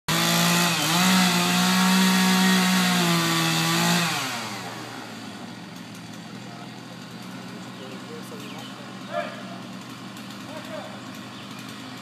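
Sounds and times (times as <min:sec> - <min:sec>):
chainsaw running at high revs: 0:00.1 - 0:12.0.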